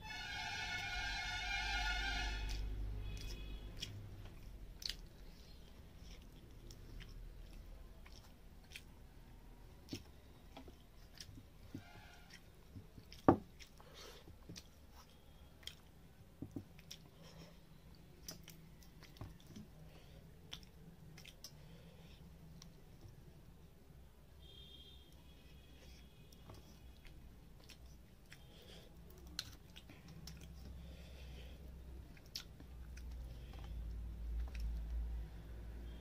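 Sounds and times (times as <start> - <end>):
chewing: 2.5 - 23.1, 25.6 - 35.6.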